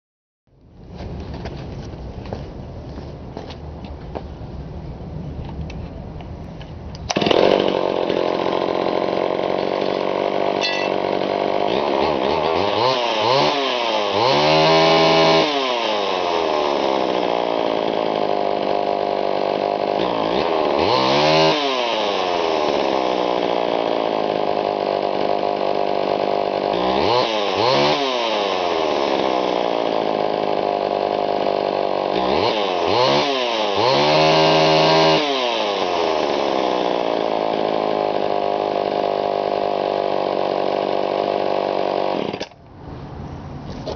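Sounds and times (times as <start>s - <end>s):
chainsaw engine revving: 7.1s - 42.6s.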